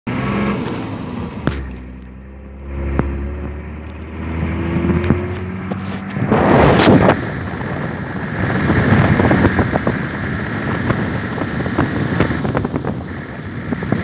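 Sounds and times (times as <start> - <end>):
vehicle engine rumbling: 0.1 - 14.0.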